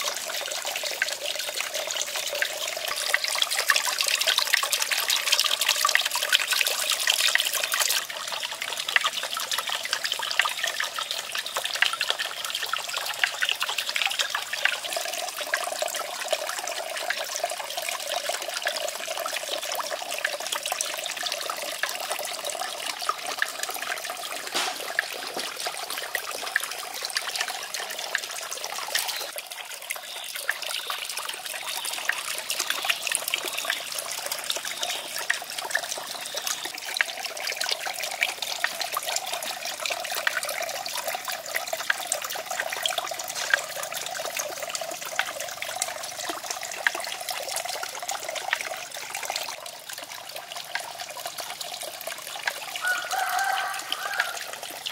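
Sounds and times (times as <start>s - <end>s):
water trickling into pond: 0.0s - 54.9s.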